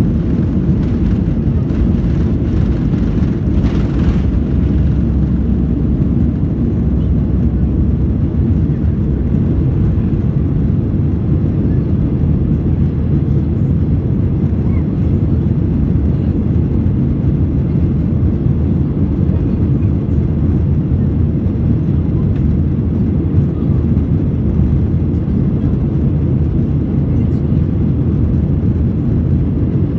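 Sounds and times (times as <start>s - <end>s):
jet engines roaring: 0.0s - 26.6s.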